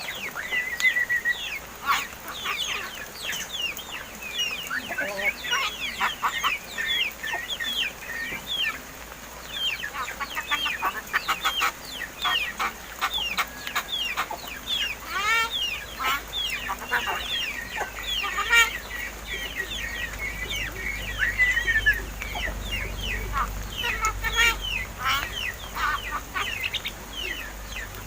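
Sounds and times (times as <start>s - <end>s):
birds chattering: 0.0s - 28.0s.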